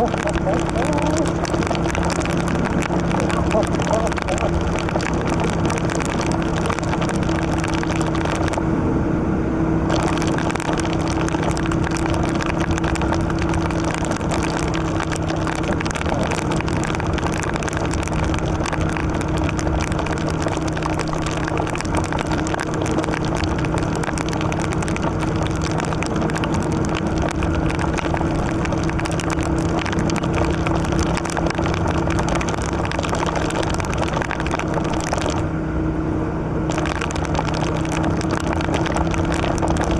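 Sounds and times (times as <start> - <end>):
tyres on wet road: 0.0 - 39.9.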